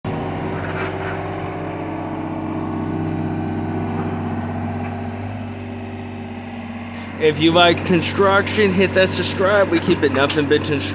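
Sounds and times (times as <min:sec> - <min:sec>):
excavator diesel engine under load: 0:00.0 - 0:10.9.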